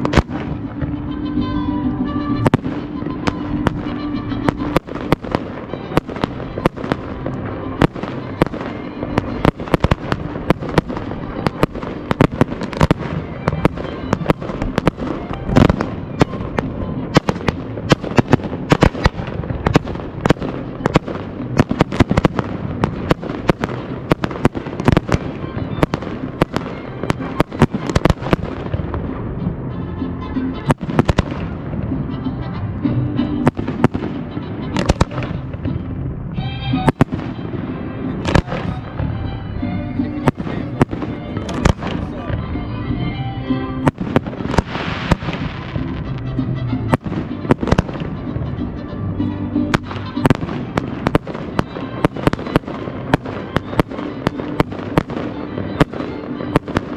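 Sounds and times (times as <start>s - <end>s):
fireworks bursts and bangs: 0.0s - 1.4s, 2.3s - 29.7s, 30.6s - 32.1s, 33.3s - 42.4s, 43.8s - 48.6s, 49.6s - 56.9s
music: 0.0s - 56.9s.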